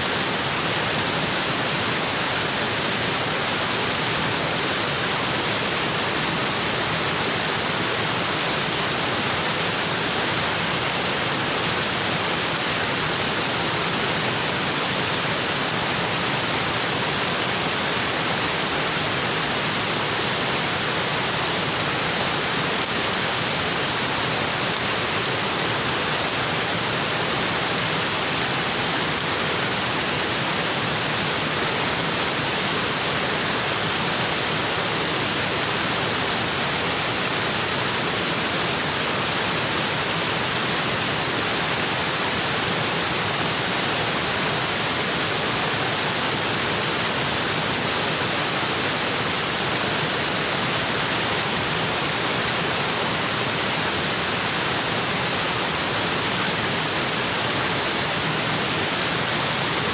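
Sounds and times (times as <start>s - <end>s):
waterfall onto rocks: 0.0s - 59.9s.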